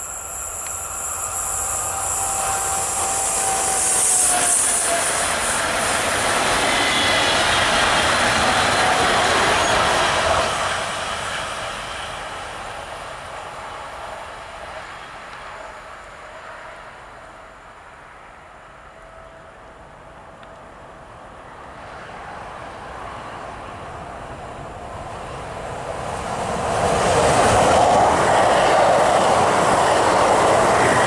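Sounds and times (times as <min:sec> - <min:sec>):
faint train whine: 0:00.0 - 0:31.0
train wheel and rail noise: 0:00.0 - 0:31.0.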